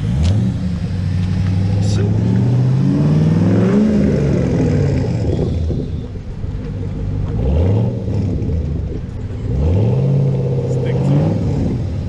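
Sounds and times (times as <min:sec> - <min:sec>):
car engine and exhaust rumbling: 0:00.0 - 0:12.0.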